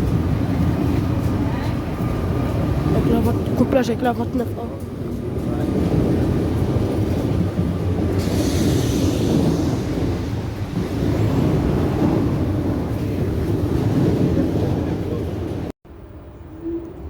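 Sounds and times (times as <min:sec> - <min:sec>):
train running by: 0:00.0 - 0:17.0.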